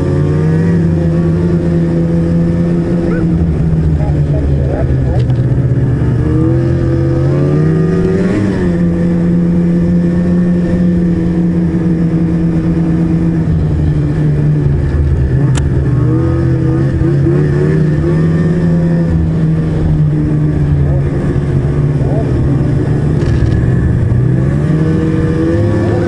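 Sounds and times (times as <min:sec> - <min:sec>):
snowmobile engine running: 0:00.0 - 0:26.0.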